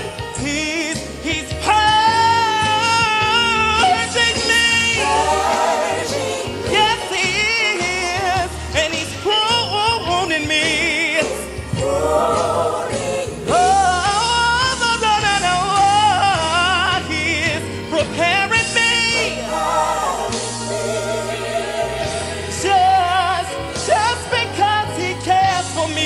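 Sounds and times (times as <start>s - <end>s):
band playing: 0.0s - 26.0s
man singing gospel: 0.0s - 26.0s.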